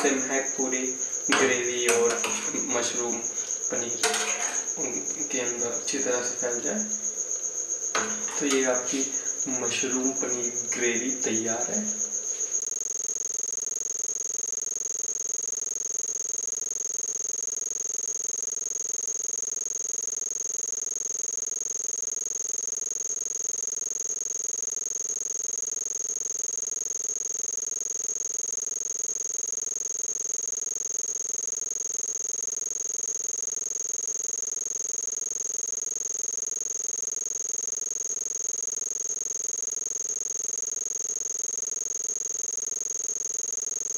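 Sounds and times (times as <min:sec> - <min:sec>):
low electronic hum: 0:00.0 - 0:06.8, 0:12.6 - 0:43.9
pulsing electronic whine: 0:00.0 - 0:43.9.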